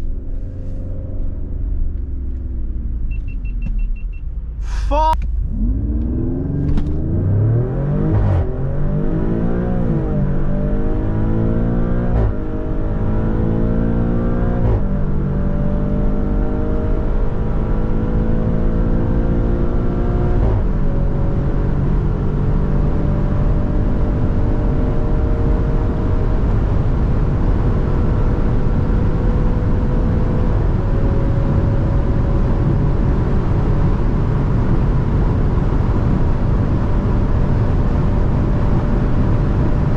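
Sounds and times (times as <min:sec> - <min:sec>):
car engine accelerating through gears: 0:00.0 - 0:39.9
road and wind noise: 0:00.0 - 0:39.9.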